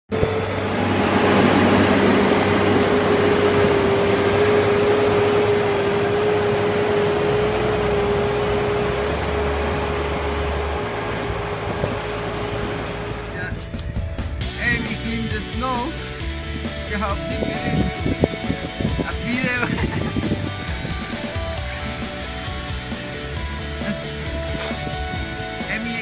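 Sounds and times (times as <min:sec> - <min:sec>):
low drone: 0:00.1 - 0:26.0
machine hum: 0:00.1 - 0:26.0.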